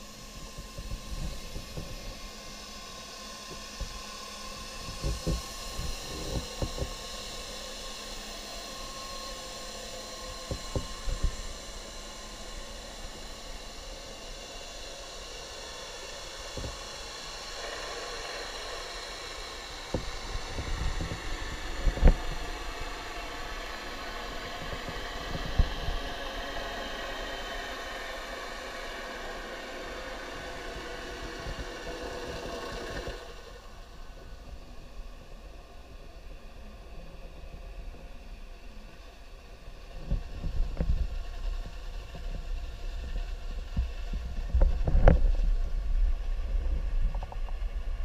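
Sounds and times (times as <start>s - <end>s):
underwater boat motor humming: 0.0s - 48.0s.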